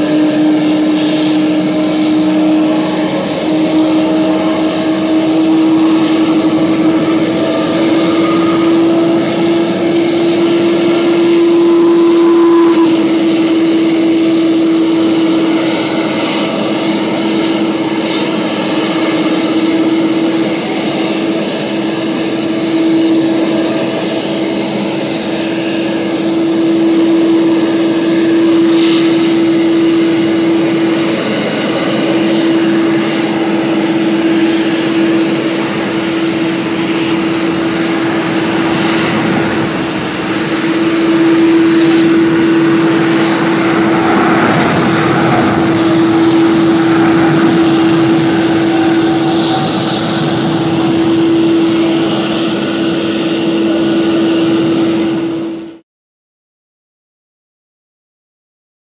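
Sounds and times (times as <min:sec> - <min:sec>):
engine whine: 0:00.0 - 0:55.8
jet engines drone: 0:00.0 - 0:55.8.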